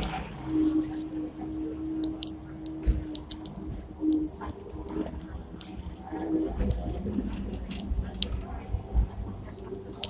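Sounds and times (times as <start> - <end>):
tram rumble: 0.0 - 10.0.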